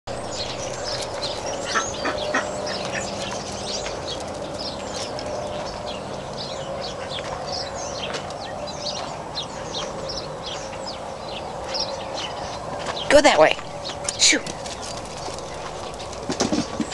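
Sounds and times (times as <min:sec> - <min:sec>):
small birds chirping: 0:00.1 - 0:16.9.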